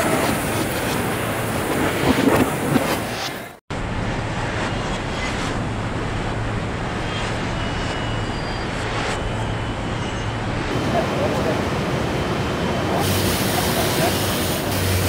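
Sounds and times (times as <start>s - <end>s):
conveyor machinery rushing: 0.0s - 15.0s.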